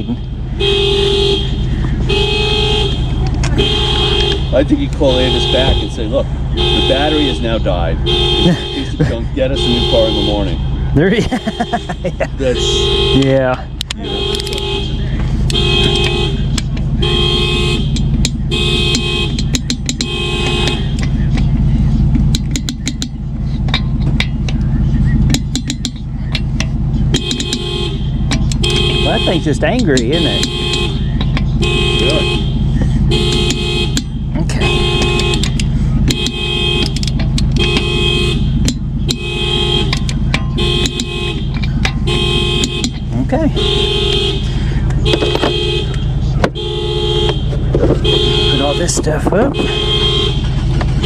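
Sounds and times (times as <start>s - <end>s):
car alarm horn blasts: 0.0s - 51.0s
engine idling: 0.0s - 51.0s
steady low rumble: 0.0s - 51.0s.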